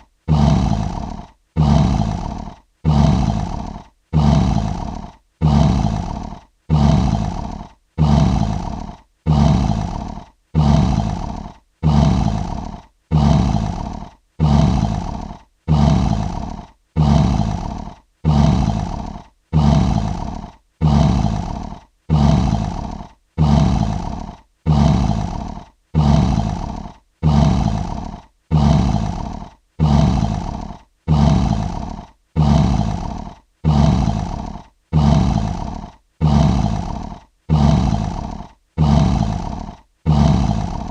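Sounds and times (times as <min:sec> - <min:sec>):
lion roar: 0:00.3 - 0:40.9.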